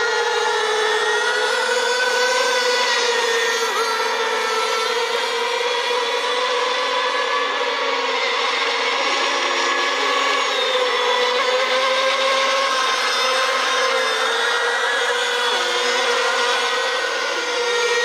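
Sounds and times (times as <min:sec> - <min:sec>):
model boat motors whining: 0:00.0 - 0:18.0.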